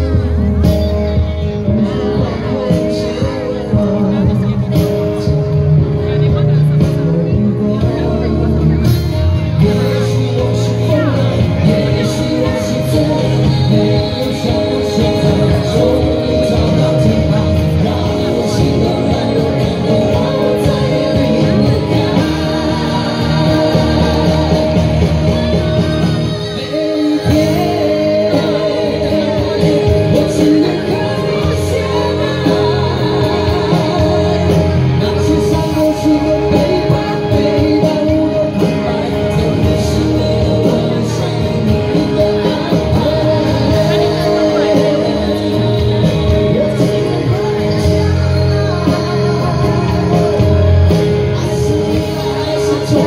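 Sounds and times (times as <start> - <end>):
amplified band playing: 0.0 - 53.0
male singer singing: 0.0 - 53.0
female singer singing: 7.0 - 53.0.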